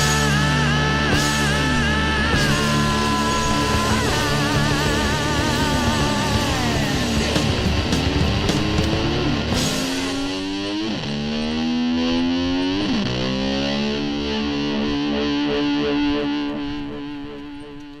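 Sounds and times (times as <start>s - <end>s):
distorted slide electric guitar: 0.0s - 18.0s.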